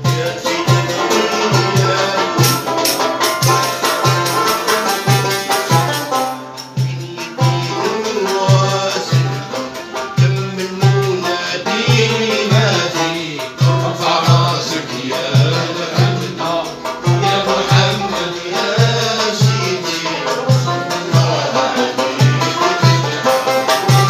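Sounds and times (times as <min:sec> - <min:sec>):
frame drum with jingles: 0:00.0 - 0:24.0
low drum beat: 0:00.0 - 0:24.0
plucked string melody: 0:00.0 - 0:24.0.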